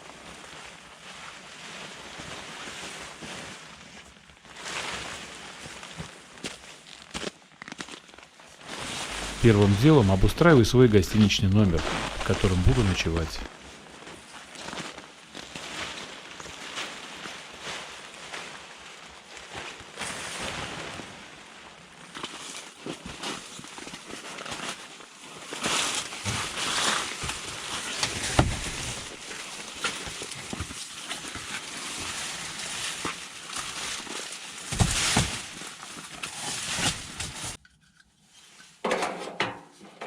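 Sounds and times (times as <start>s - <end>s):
tent fabric rustling and scraping: 0.0s - 37.6s.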